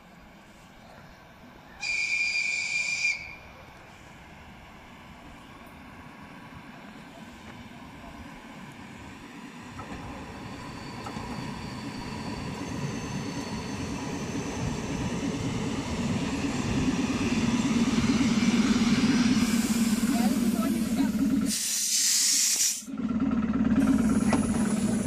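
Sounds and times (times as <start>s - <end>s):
train running rumble: 3.9s - 25.0s.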